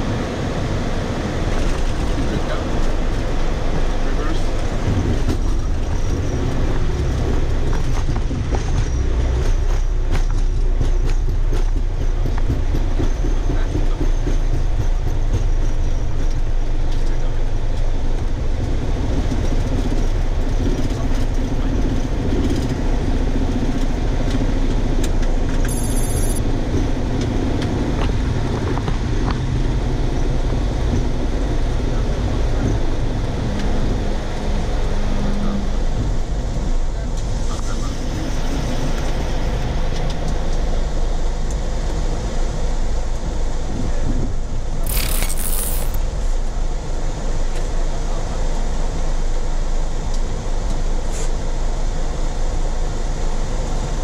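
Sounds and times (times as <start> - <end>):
wheels rumbling on runway: 0.0 - 54.0.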